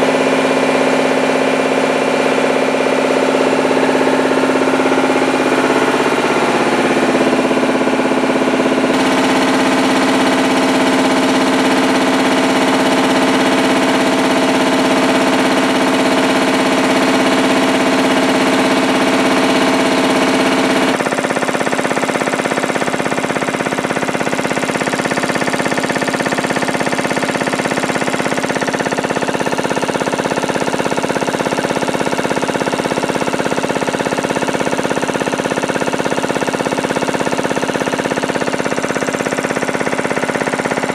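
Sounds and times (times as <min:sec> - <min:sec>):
air compressor running: 0:00.0 - 0:40.9.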